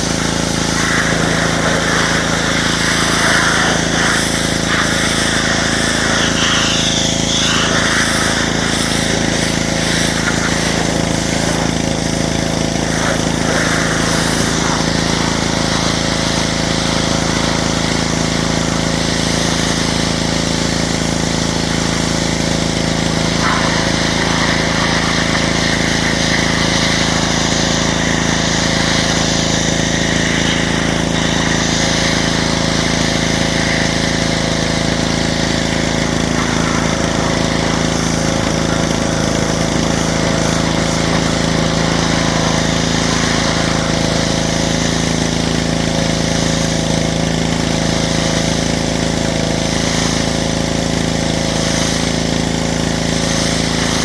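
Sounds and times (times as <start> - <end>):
pressure washer engine running: 0.0 - 54.0.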